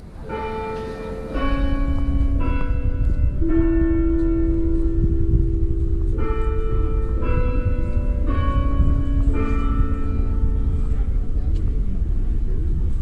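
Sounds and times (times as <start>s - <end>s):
bells ringing: 0.0s - 13.0s
steady low rumble: 0.0s - 13.0s.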